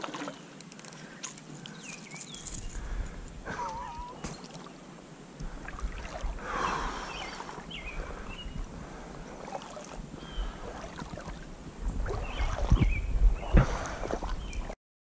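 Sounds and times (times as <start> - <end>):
water sloshing around wading legs: 0.0 - 8.3, 8.9 - 14.8
birds chirping: 0.2 - 4.8, 5.4 - 14.8.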